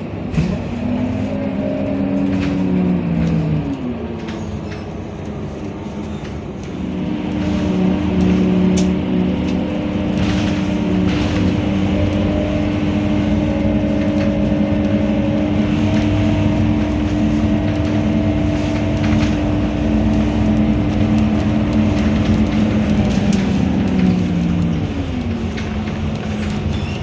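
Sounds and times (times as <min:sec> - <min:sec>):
bus engine hum: 0:00.0 - 0:27.0.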